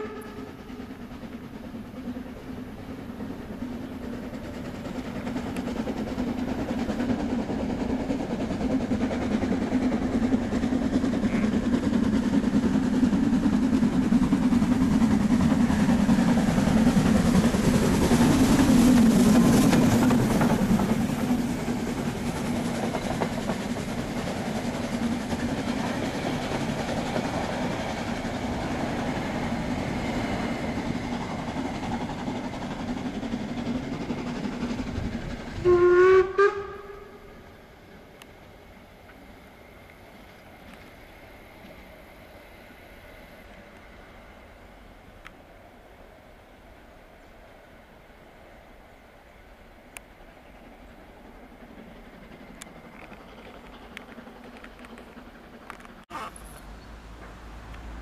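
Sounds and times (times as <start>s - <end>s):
steam locomotive rumbling past: 0.0s - 58.0s
train coaches rolling: 0.0s - 58.0s.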